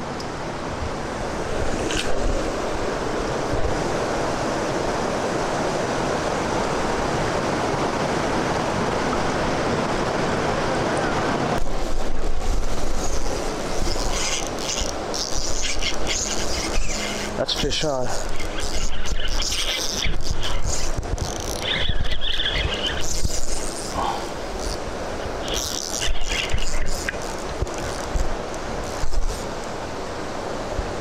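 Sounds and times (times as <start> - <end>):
river water rushing over rocks: 0.0 - 31.0.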